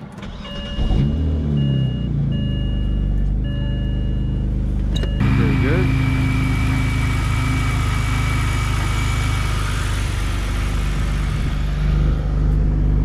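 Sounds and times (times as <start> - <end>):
car engine idling: 2.2 - 13.0.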